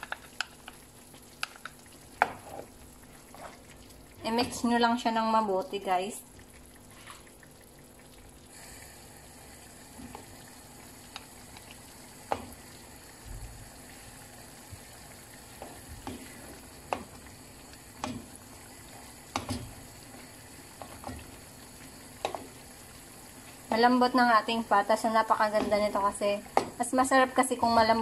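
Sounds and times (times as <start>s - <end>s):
sauce bubbling and sizzling: 0.0s - 28.0s.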